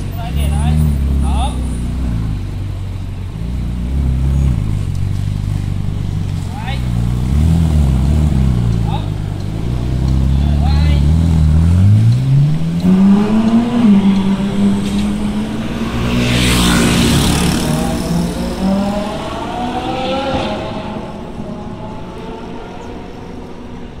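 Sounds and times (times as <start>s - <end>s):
sports car exhaust accelerating: 0.0s - 23.4s.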